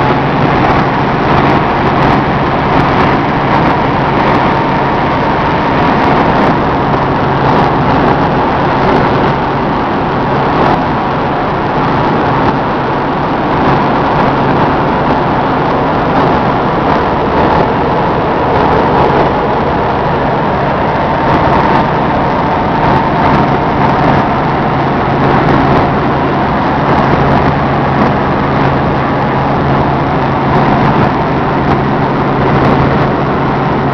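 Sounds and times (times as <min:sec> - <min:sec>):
faint high whine: 0:00.0 - 0:33.9
helicopter engine and rotor noise: 0:00.0 - 0:33.9.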